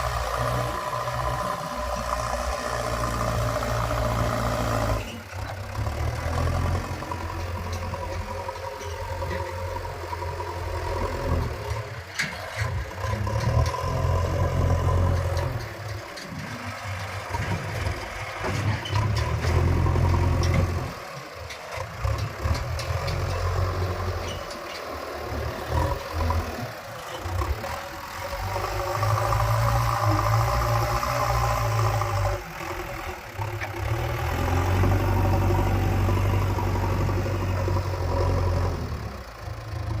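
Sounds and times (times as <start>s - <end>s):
diesel engine working: 0.0s - 40.0s.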